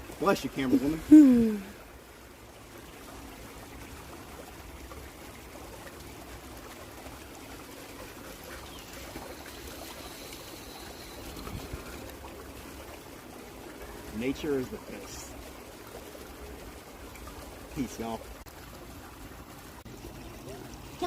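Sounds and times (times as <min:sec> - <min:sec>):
creek water trickling: 0:00.0 - 0:21.0.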